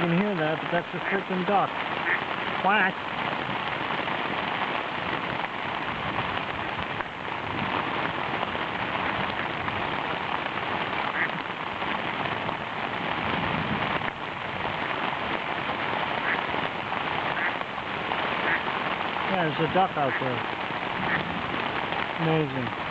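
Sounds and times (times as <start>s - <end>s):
heavy rain on a tent: 0.0s - 22.9s.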